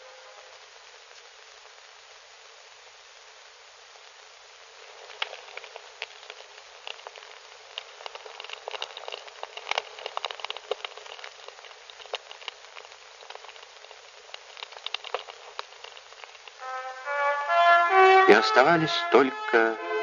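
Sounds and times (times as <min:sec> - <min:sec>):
fire crackling: 0:00.0 - 0:20.0
steady hiss: 0:00.0 - 0:20.0.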